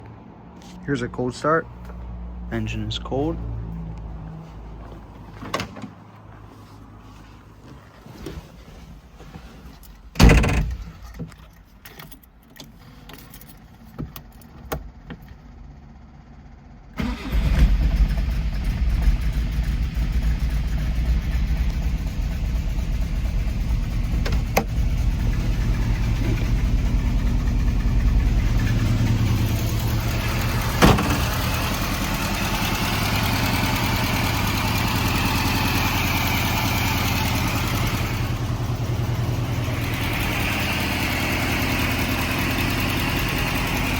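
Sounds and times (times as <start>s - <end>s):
car engine starting and running: 0.0s - 43.9s.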